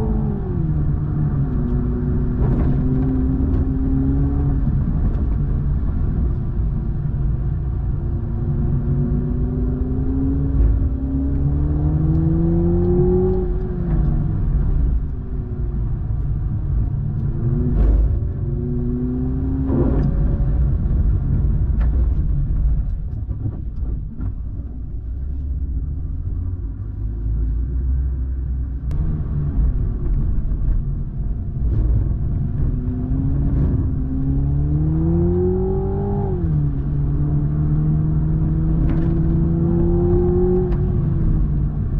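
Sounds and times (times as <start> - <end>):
car engine revving: 0.0 - 41.9
low road noise rumble: 0.0 - 41.9.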